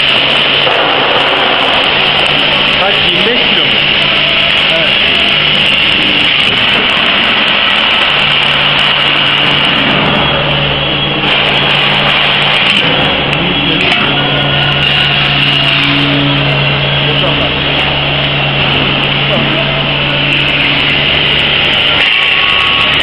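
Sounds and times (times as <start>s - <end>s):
low motor hum: 0.0s - 23.0s
machine whirring and hissing: 0.0s - 23.0s.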